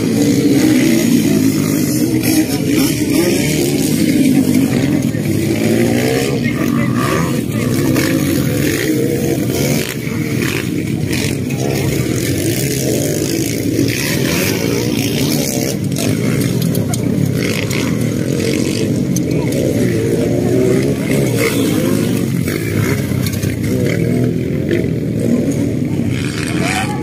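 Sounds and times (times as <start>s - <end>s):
motocross bikes revving: 0.0s - 27.0s.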